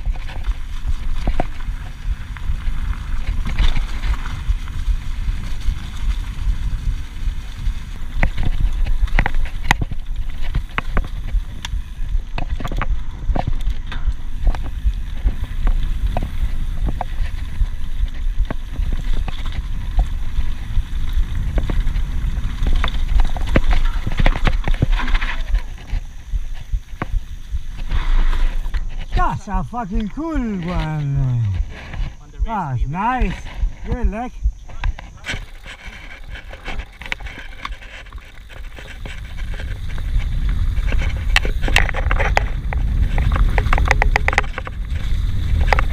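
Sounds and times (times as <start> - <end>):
bike clacking and rattling: 0.0 - 28.9, 35.1 - 45.9.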